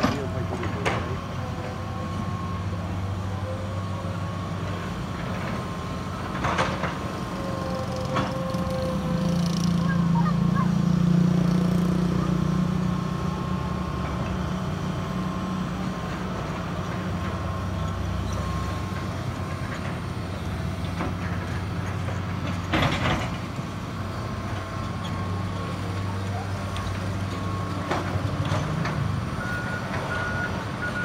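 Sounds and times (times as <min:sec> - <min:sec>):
diesel construction machinery running: 0:00.0 - 0:31.0.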